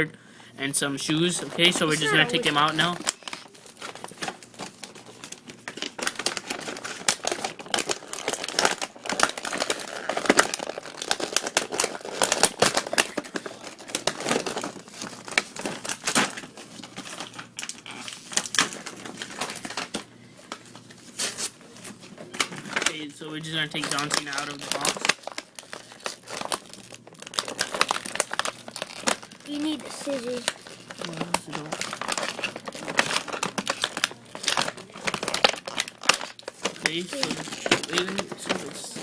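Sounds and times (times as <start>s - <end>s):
packaging crinkling and rustling: 1.0s - 39.0s.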